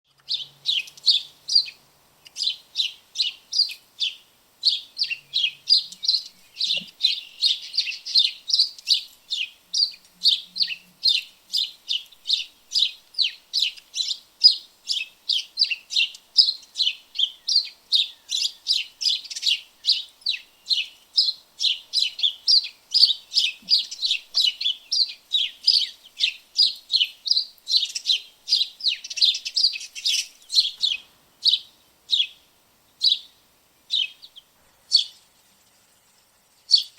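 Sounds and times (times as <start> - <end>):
sparrows chirping: 0.1 - 36.9.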